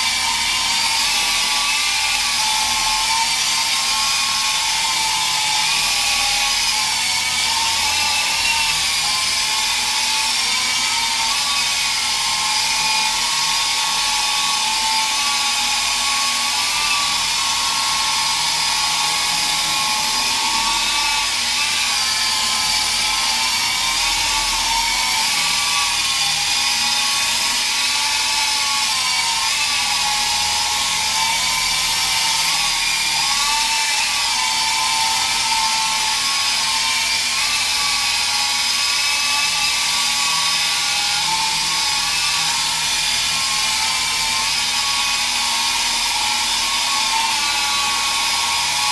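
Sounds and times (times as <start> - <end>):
toy helicopter motor whine: 0.0 - 48.9.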